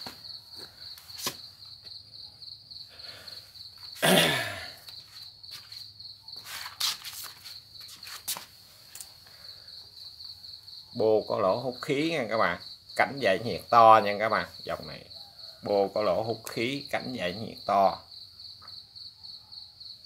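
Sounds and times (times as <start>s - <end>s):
cricket trilling: 0.0s - 20.0s.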